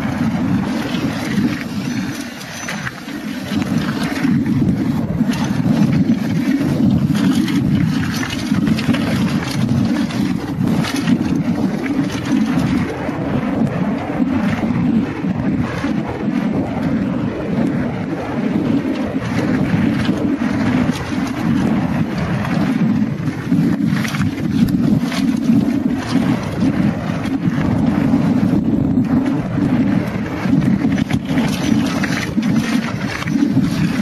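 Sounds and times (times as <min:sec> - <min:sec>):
bike clattering over rough trail: 0:00.0 - 0:34.0
wind buffeting microphone: 0:00.0 - 0:34.0.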